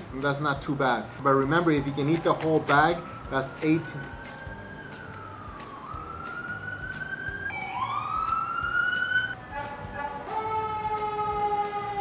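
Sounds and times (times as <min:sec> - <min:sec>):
siren wailing: 0:01.6 - 0:12.0.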